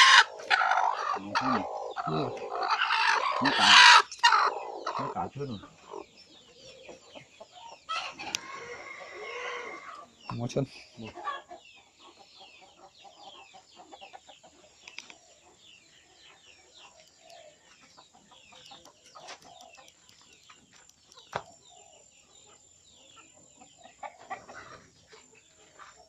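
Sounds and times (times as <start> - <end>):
chickens clucking faintly: 0.0 - 26.0.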